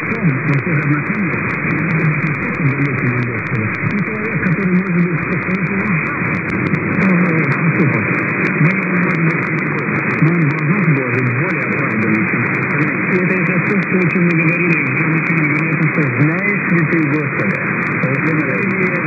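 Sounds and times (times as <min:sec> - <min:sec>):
interference clicks crackling: 0:00.0 - 0:19.0
muffled radio voice speaking: 0:00.0 - 0:19.0
radio hiss: 0:00.0 - 0:19.0.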